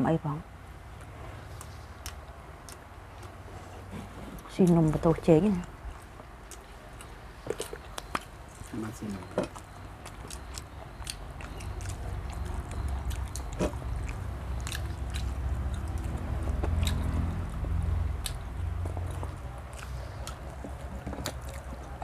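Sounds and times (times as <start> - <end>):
food being bitten and chewed: 1.0 - 22.0.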